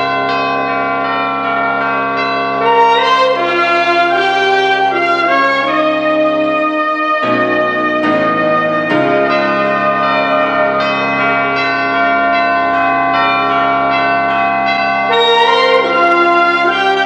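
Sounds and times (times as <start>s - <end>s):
bell-like film score chords: 0.0s - 17.0s
high melodic line: 2.6s - 14.0s, 14.6s - 17.0s.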